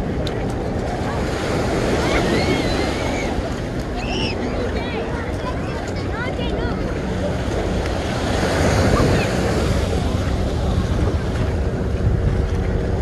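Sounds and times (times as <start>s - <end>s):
waves breaking on shore: 0.0s - 13.0s
wind buffeting microphone: 0.0s - 13.0s.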